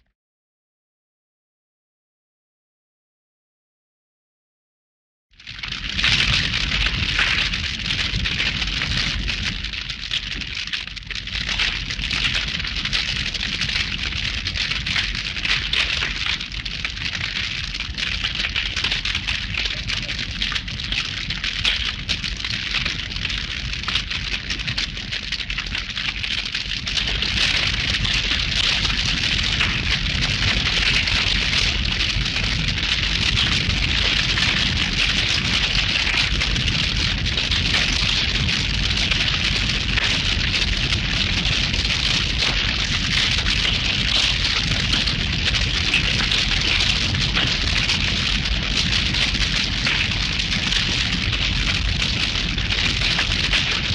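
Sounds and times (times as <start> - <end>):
cartoon fire crackling: 5.4 - 53.9.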